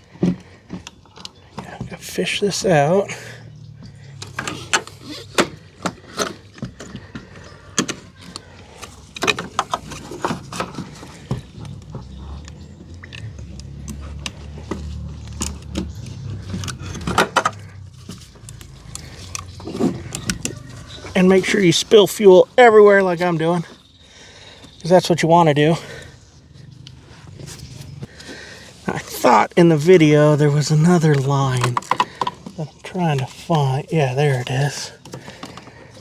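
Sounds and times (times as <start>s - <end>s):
hard parts clicking and rattling: 0.0s - 36.0s.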